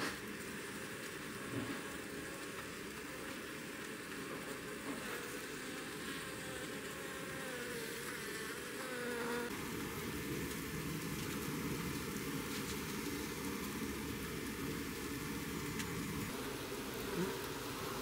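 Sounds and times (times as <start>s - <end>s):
steady hiss: 0.0s - 18.0s
bee buzzing: 1.0s - 18.0s.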